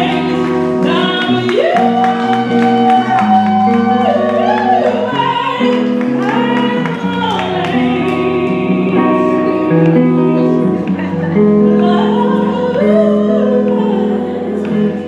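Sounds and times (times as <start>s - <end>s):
woman singing long notes: 0.0s - 15.0s.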